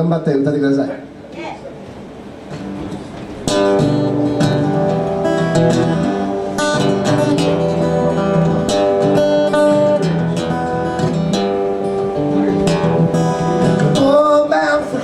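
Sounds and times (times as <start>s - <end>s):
acoustic guitar strumming chords: 2.5s - 15.0s.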